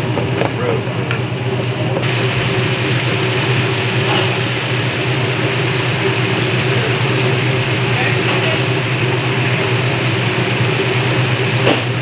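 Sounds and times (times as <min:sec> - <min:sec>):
mechanical hum with rattle: 0:00.0 - 0:12.0
food hissing in a pan: 0:01.7 - 0:12.0.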